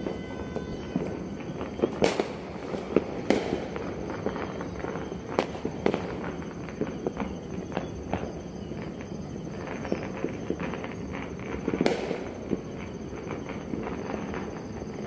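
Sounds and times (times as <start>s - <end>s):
sharp firework bangs: 0.0s - 8.3s, 9.9s - 14.5s
distant fireworks crackling: 0.0s - 15.0s.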